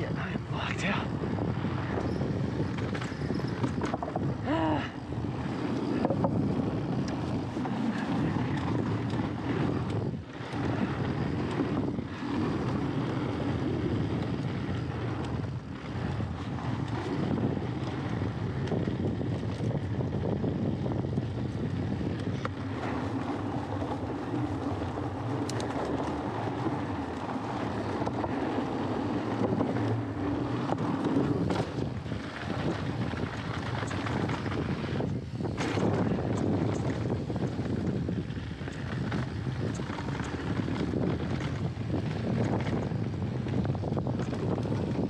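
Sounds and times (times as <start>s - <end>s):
bike tyres rumbling on boards: 0.0s - 45.0s
wind buffeting microphone: 0.0s - 45.0s.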